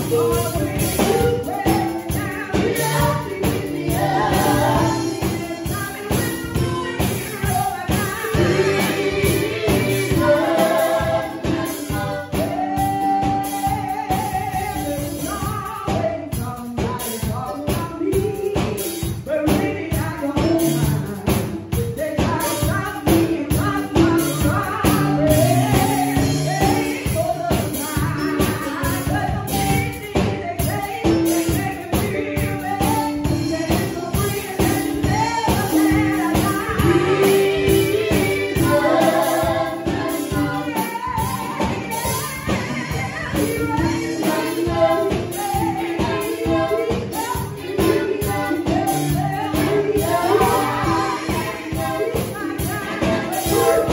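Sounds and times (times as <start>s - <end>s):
gospel singing over a beat: 0.0s - 53.9s.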